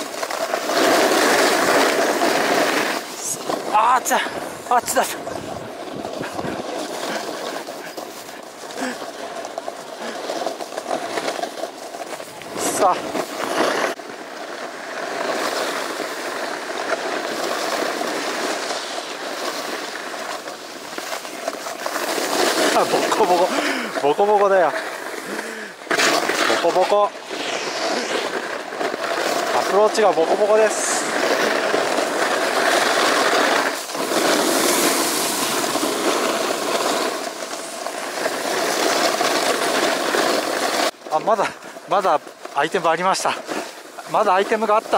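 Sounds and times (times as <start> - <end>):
snowboard scraping on snow: 0.0 - 44.9.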